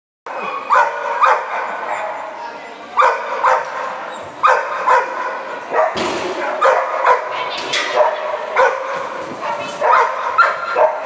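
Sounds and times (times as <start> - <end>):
dog barking: 0.4 - 2.3, 3.0 - 11.0.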